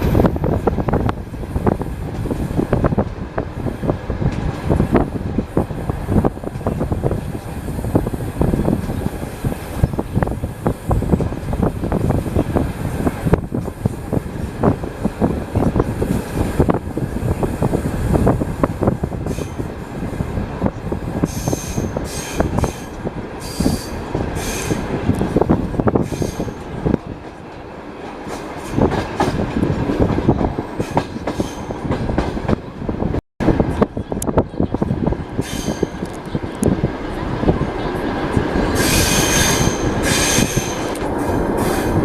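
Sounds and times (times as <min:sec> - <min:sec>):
train wheels rattling on rails: 0:00.0 - 0:42.0.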